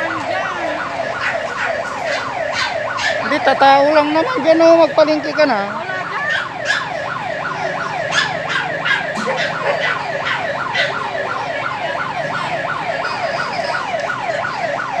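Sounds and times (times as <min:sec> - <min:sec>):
siren yelping: 0:00.0 - 0:15.0.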